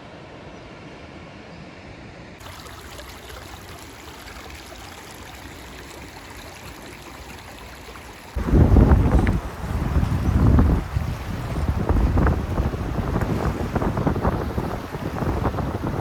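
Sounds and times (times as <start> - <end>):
flowing stream water: 2.4 - 16.0.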